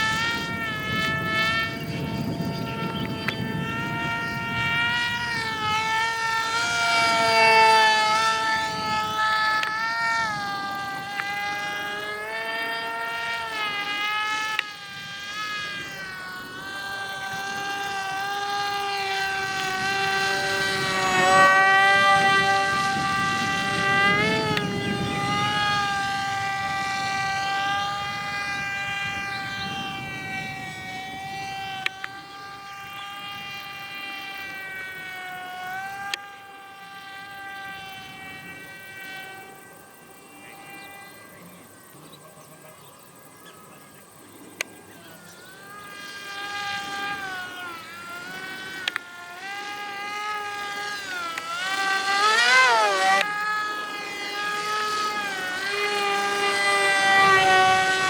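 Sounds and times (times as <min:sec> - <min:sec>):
model aircraft motor whine: 0:00.0 - 0:58.0.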